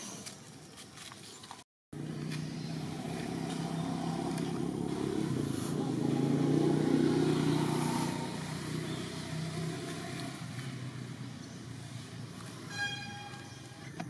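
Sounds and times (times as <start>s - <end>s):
vehicle engine hum: 1.9s - 14.0s.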